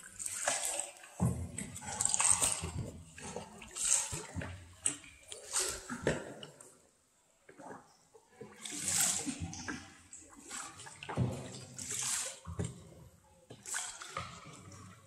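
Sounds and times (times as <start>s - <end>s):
paddle splashing in water: 0.0s - 6.8s, 7.5s - 15.0s.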